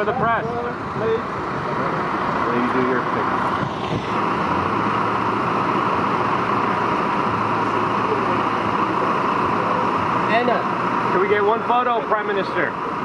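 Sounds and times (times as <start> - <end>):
low hum: 0.0 - 13.0
loud mechanical hiss: 0.2 - 13.0.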